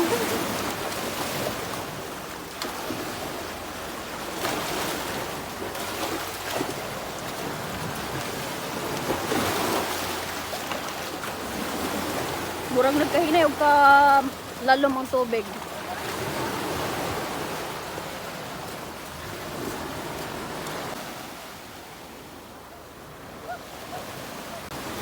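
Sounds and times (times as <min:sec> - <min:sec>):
sea surf washing onto beach: 0:00.0 - 0:25.0.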